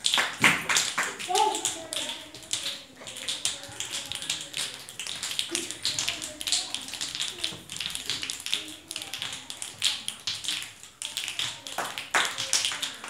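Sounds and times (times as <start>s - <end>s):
children snapping fingers: 0.2s - 13.0s
children's voices: 1.0s - 13.0s.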